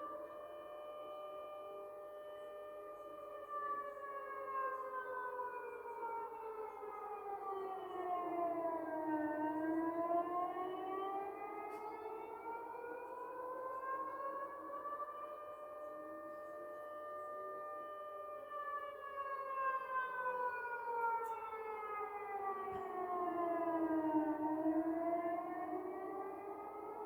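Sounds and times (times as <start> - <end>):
air-raid sirens wailing: 0.0 - 27.0.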